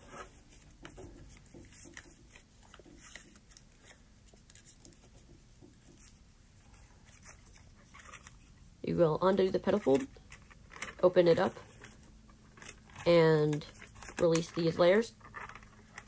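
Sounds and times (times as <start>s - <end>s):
paper rustling and crinkling: 0.0s - 5.2s, 5.9s - 8.5s, 9.6s - 16.0s.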